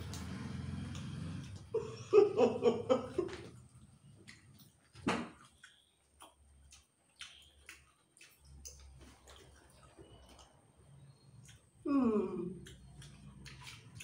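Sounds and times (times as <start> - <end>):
people eating with hands: 0.0 - 14.0.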